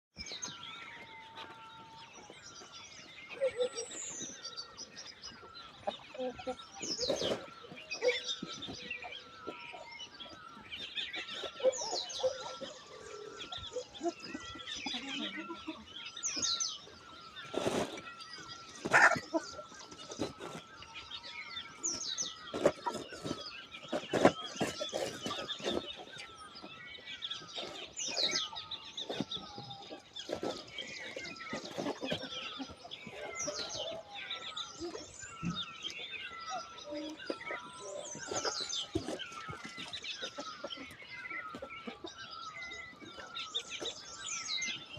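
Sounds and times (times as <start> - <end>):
chicks chirping and peeping: 0.2 - 44.9
hens clucking: 5.3 - 21.0, 21.6 - 44.9.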